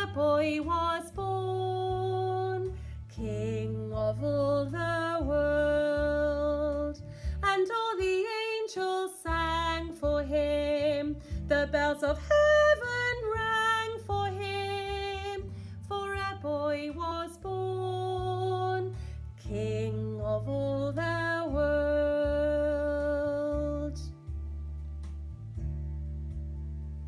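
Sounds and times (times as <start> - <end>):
woman singing: 0.0 - 24.2
instrumental accompaniment: 0.0 - 27.0.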